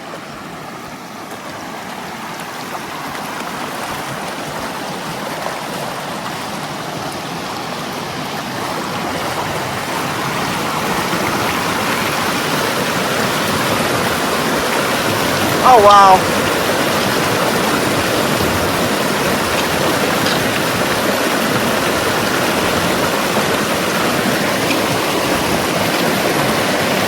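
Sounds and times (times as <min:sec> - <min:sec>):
creek water rushing through culverts: 0:00.0 - 0:27.0.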